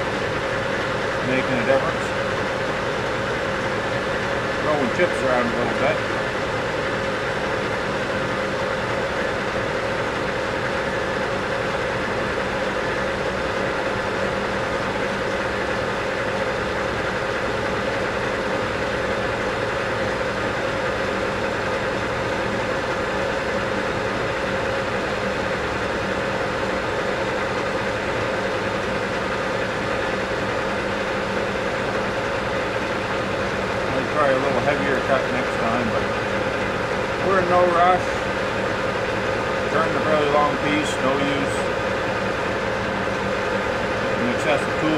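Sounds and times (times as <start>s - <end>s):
lathe running: 0.0s - 44.9s.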